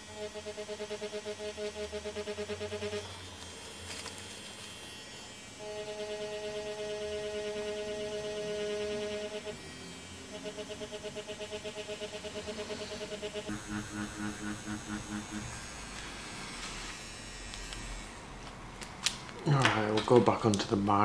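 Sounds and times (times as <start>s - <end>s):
tattoo machine humming: 0.0s - 18.7s.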